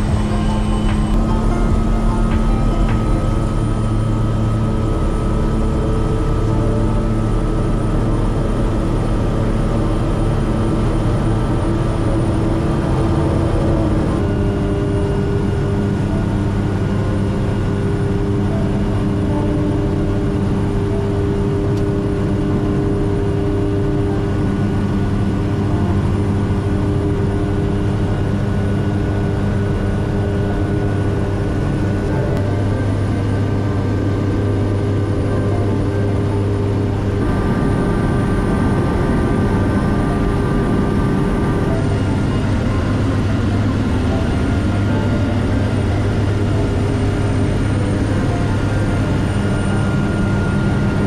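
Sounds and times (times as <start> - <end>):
propeller plane engine droning: 0.0 - 51.0.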